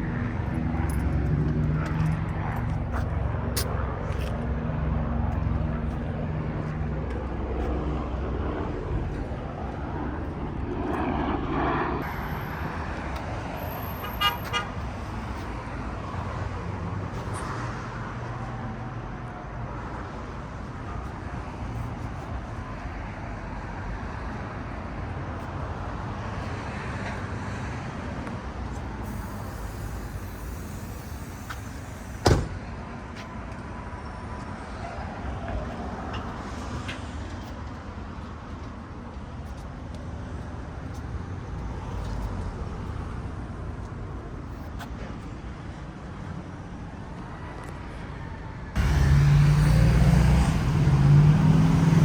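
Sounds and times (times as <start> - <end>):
cars passing: 0.0 - 52.0.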